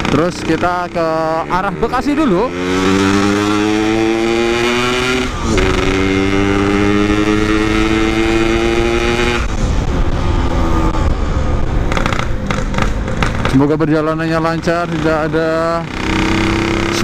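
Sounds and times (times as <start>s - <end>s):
road and wind noise: 0.0s - 17.0s
two-stroke motorcycle engine revving: 0.0s - 17.0s.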